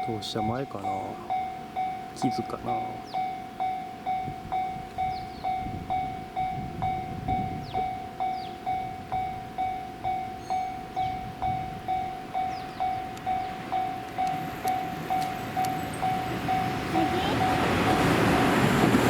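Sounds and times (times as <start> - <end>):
level-crossing warning bell: 0.0 - 19.0.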